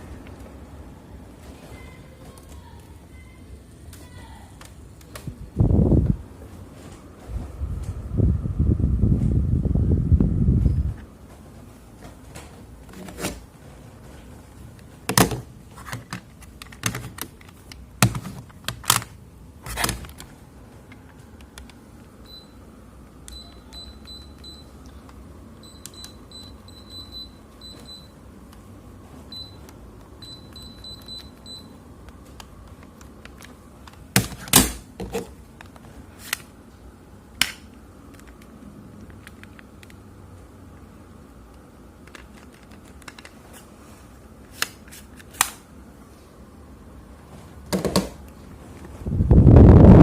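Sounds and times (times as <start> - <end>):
air conditioner humming: 0.0 - 50.0.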